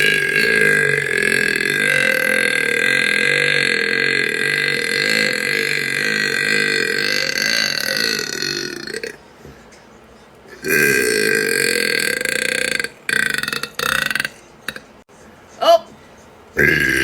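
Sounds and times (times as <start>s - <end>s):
woman belching: 0.0s - 9.2s, 10.5s - 14.9s, 16.6s - 17.0s.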